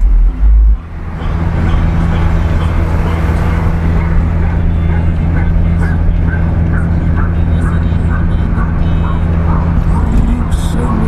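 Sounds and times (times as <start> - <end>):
car engine idling: 0.0 - 11.0
deep bass from car stereo: 0.0 - 11.0.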